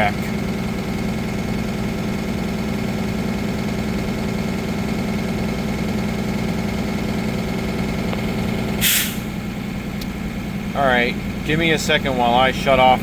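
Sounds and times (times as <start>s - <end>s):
diesel bus engine idling: 0.0s - 13.0s.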